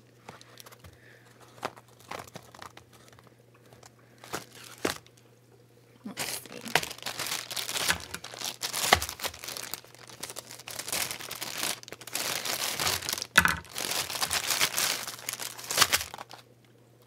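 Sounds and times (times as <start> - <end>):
plastic mailer bag crinkling: 0.3 - 5.2, 6.1 - 16.5.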